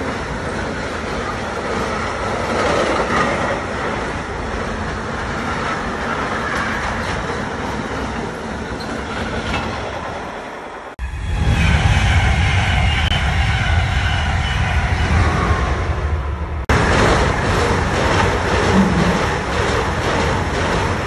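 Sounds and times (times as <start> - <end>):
train rumble: 0.0 - 21.0
train rushing past: 0.0 - 21.0.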